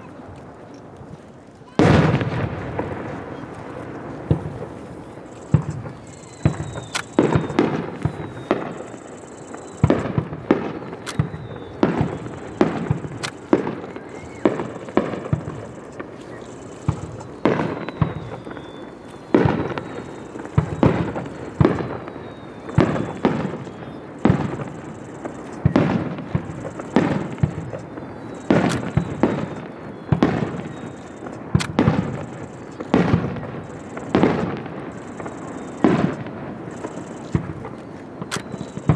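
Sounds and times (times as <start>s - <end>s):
fireworks shells bursting: 0.0s - 38.9s
falling whistles: 1.7s - 38.9s.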